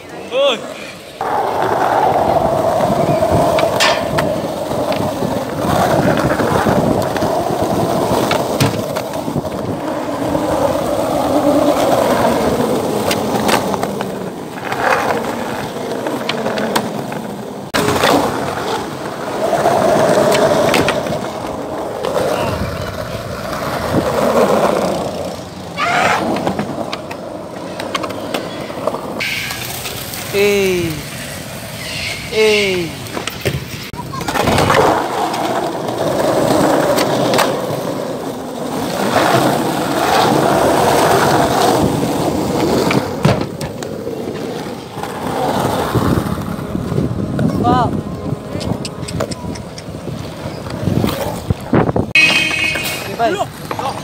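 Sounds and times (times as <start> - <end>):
skateboard wheels rolling on concrete: 0.0 - 54.0
skateboard popping and landing: 1.2 - 30.3, 33.0 - 48.0.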